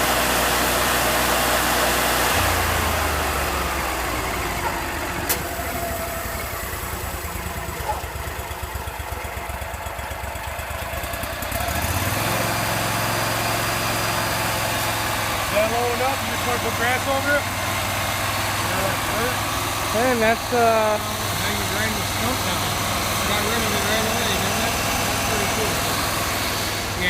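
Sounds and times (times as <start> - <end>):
stump grinder engine running: 0.0 - 27.0.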